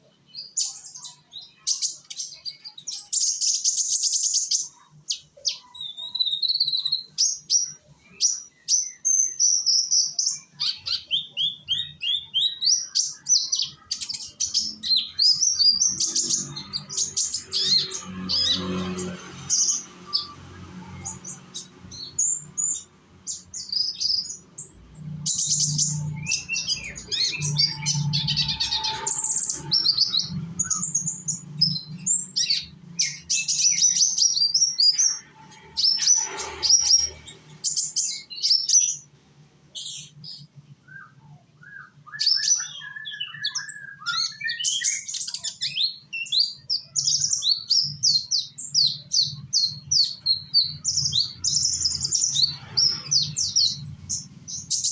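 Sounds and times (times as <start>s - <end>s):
bird chirping and trilling: 0.0s - 54.9s.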